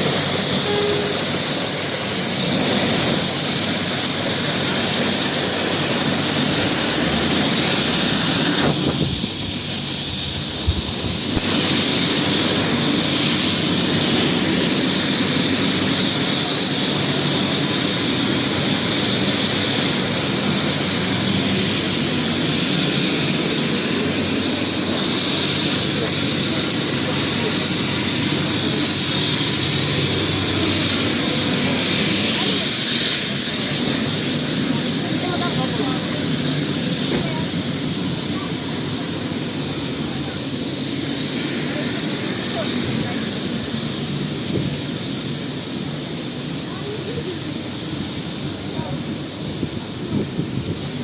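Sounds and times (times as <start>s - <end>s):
helicopter rotor noise: 0.0s - 51.0s
helicopter turbine whine: 0.0s - 51.0s.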